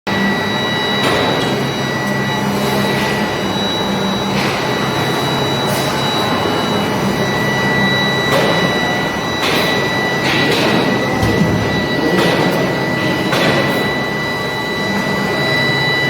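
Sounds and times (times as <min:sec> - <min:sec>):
low machinery hum: 0:00.1 - 0:15.3
machinery high whine: 0:00.1 - 0:16.0.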